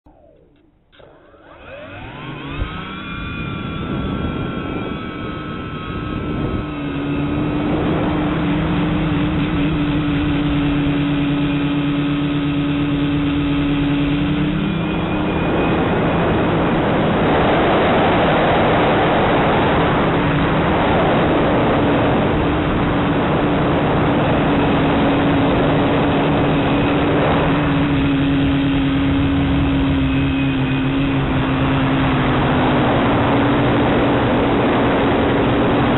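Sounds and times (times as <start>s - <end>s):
drone motors humming: 0.0s - 35.9s.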